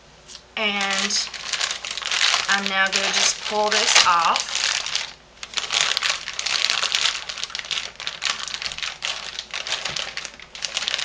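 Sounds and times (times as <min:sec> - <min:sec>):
paper liner crinkling: 0:00.6 - 0:11.0.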